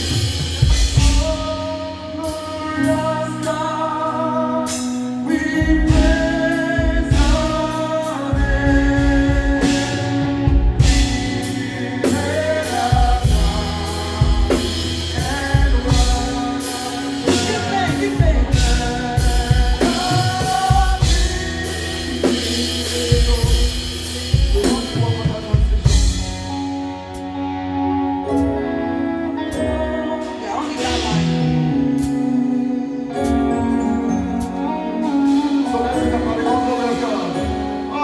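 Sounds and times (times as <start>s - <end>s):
drum kit: 0.0s - 3.8s, 4.6s - 27.4s, 29.5s - 32.6s, 33.2s - 38.0s
band playing praise song: 0.0s - 38.0s
person singing: 0.0s - 38.0s.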